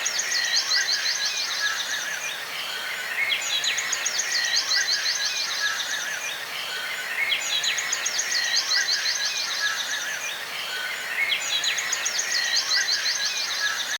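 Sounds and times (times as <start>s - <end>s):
steady background hiss: 0.0s - 13.9s.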